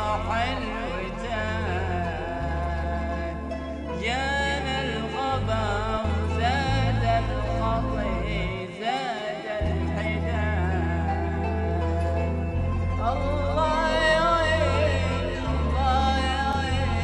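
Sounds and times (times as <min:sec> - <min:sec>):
person singing ornamented melody: 0:00.0 - 0:17.0.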